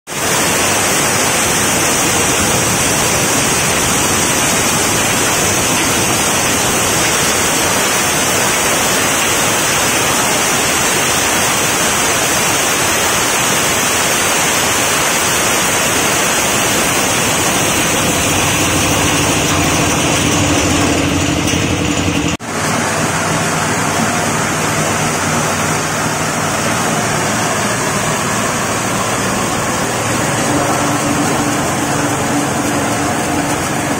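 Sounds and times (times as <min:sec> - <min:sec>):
corn grinding machine rushing: 0:00.1 - 0:33.9.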